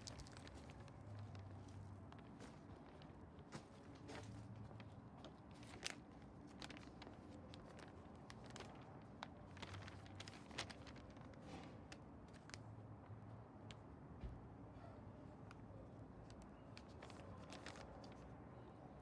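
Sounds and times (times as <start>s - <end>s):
paper crinkling and rustling: 0.0s - 13.1s, 15.5s - 18.4s.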